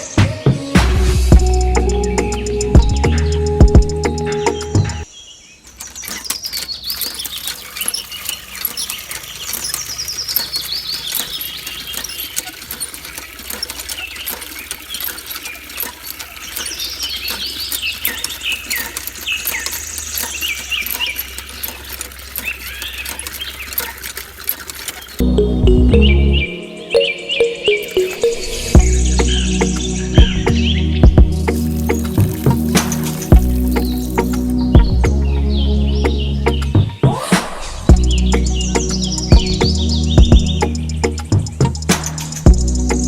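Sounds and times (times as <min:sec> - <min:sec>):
small birds chirping: 0:01.3 - 0:43.0.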